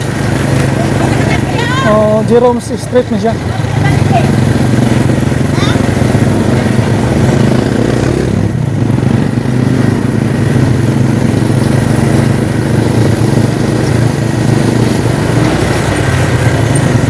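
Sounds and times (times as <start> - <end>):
road and wind noise: 0.0 - 17.0
small motorcycle engine running: 0.0 - 17.0.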